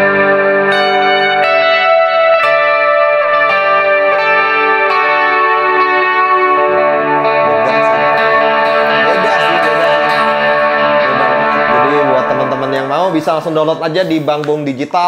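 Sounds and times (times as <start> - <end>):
electric guitar with reverb: 0.0 - 14.8.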